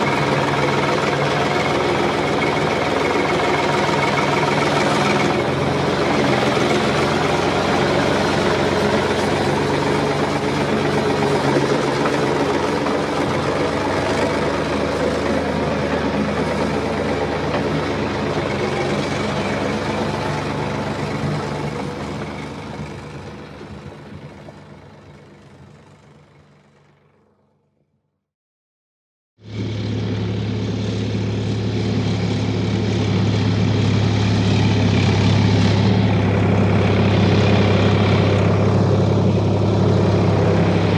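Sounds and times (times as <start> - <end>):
heavy engine running: 0.0 - 27.8, 29.4 - 40.9.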